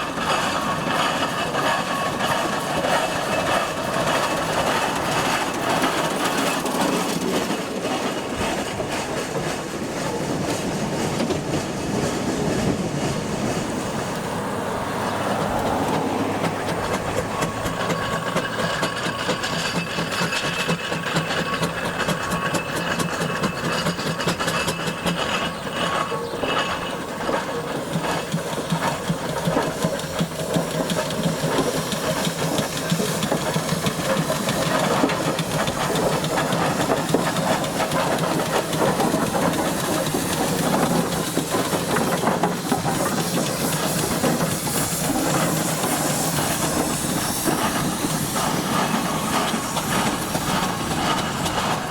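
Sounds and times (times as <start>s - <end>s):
steam hissing: 0.0s - 51.9s.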